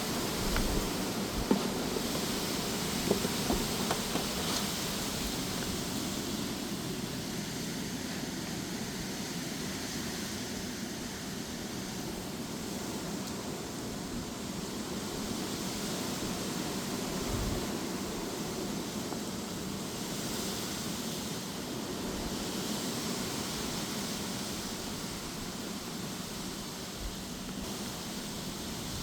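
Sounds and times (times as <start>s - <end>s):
gusty wind: 0.0s - 29.0s
rain: 0.0s - 29.0s.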